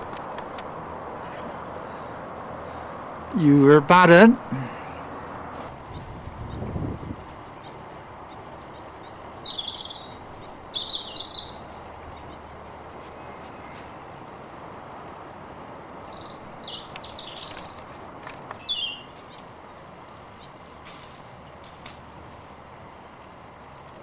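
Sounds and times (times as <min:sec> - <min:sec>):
birds chirping: 0:00.0 - 0:15.1, 0:15.7 - 0:21.6
outdoor background hiss: 0:00.0 - 0:24.0.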